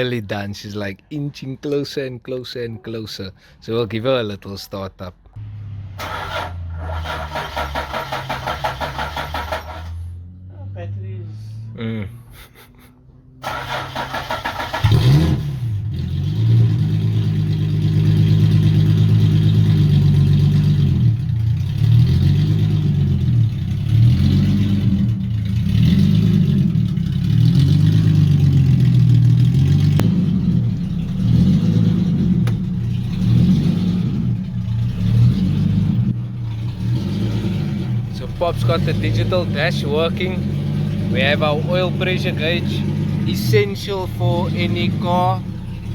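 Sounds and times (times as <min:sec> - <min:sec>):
car engine cranking and revving: 0:05.3 - 0:10.5, 0:13.4 - 0:45.9.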